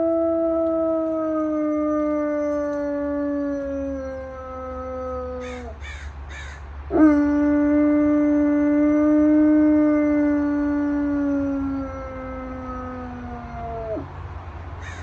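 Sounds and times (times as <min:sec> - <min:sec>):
dog howling: 0:00.0 - 0:05.8, 0:06.9 - 0:14.1.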